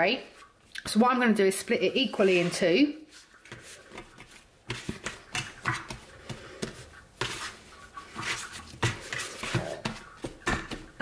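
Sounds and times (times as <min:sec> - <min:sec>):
hands squishing bread dough: 0:00.0 - 0:11.0.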